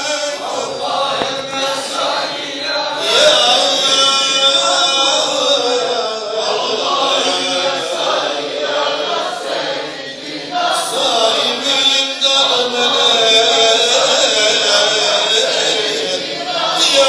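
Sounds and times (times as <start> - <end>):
crowd chanting in unison: 0.0 - 17.0.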